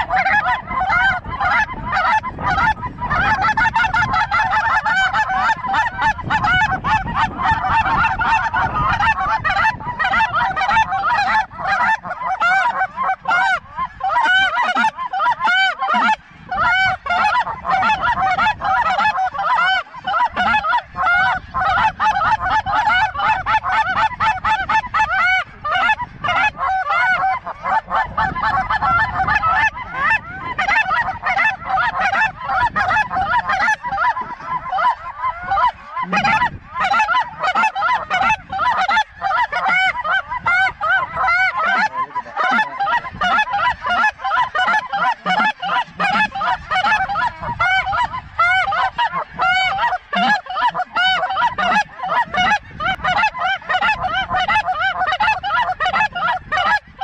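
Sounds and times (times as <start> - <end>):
geese honking: 0.0 - 57.0.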